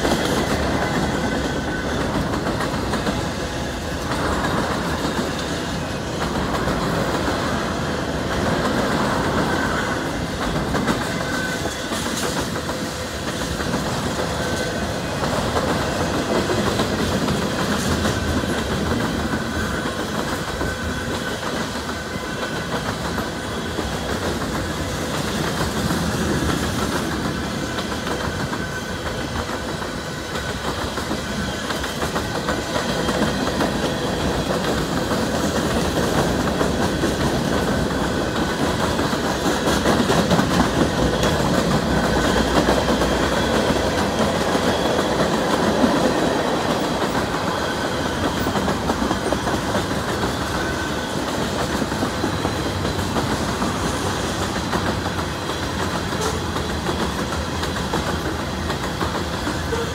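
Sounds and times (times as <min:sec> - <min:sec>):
steel wheels rumbling on rails: 0:00.0 - 0:59.9
wheels clacking over rail joints: 0:00.0 - 0:59.9.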